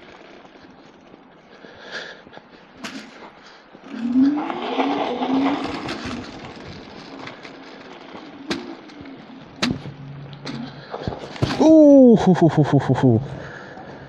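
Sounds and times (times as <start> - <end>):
tyre noise on snow: 2.4 - 14.0.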